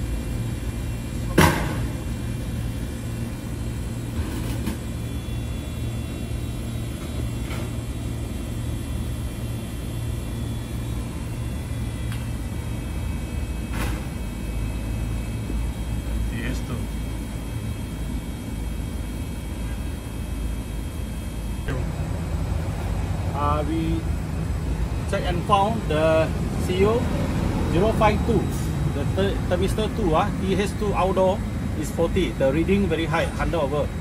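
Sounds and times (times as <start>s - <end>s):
faint high whine: 0.0s - 34.0s
machinery rumbling: 0.0s - 34.0s.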